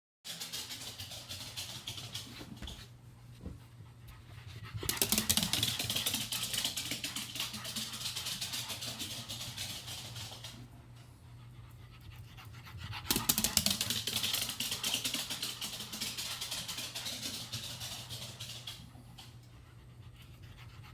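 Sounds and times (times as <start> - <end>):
dog panting fast: 0.3 - 20.9.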